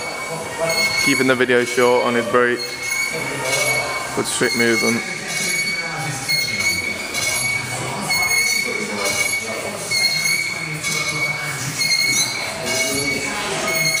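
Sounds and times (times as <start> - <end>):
cable machine pulleys squealing: 0.0 - 14.0.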